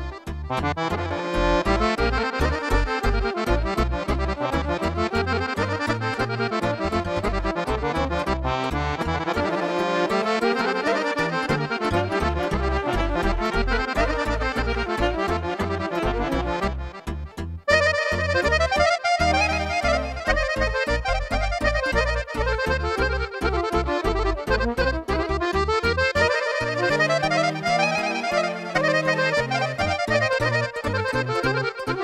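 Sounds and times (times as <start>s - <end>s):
folk dance band playing: 0.0s - 17.0s, 17.7s - 32.0s
fast bass beat: 0.0s - 27.2s
accordion: 0.0s - 32.0s.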